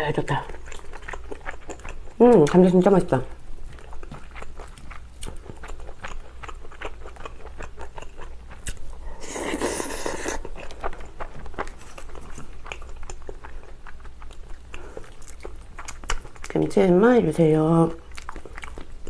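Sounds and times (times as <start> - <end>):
chewing and wet mouth clicks: 0.5 - 3.0, 3.7 - 8.8, 9.9 - 16.7, 18.0 - 19.0.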